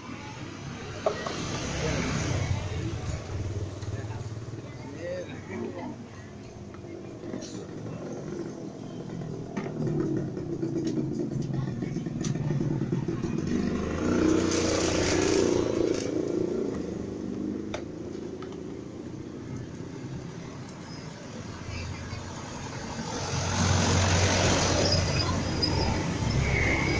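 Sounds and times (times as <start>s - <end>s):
motor scooter passing: 0.3s - 20.6s, 21.3s - 26.9s
truck engine approaching: 1.4s - 26.9s.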